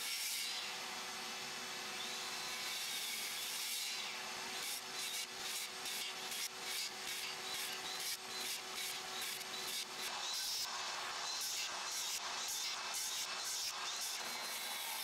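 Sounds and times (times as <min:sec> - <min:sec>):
circular saw cutting wood: 0:00.0 - 0:15.0.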